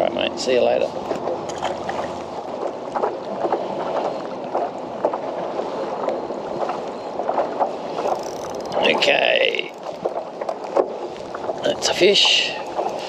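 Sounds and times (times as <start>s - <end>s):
water lapping against kayak hull: 0.0s - 13.0s.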